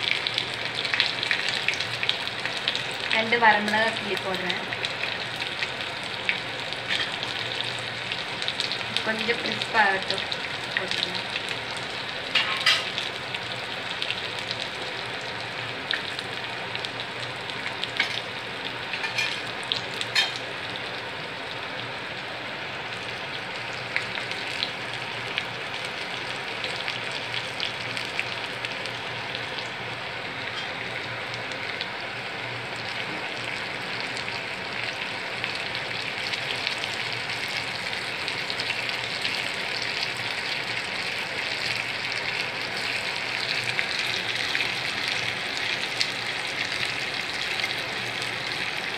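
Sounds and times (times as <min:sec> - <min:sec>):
frying in hot oil sizzling: 0:00.0 - 0:48.9.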